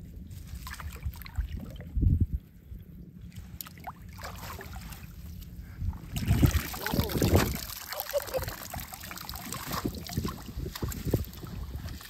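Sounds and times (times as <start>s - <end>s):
water splashing and dribbling: 0.3s - 2.1s, 3.3s - 12.0s.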